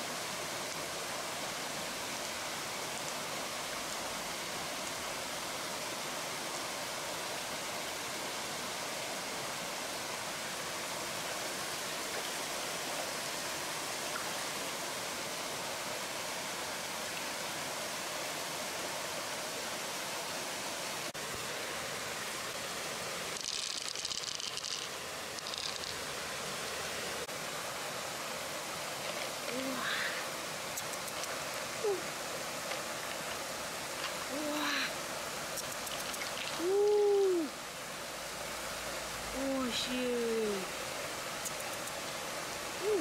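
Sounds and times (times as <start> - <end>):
flowing river water: 0.0 - 43.0.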